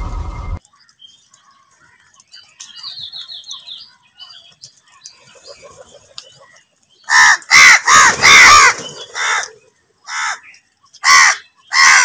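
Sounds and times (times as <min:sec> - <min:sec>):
birds chirping: 0:00.6 - 0:12.0.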